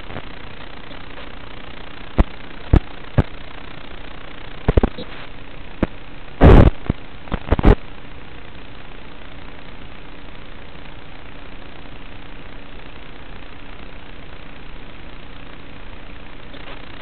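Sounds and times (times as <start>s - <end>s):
sharp crackles and pops: 0.0s - 17.0s
static hiss: 0.0s - 17.0s.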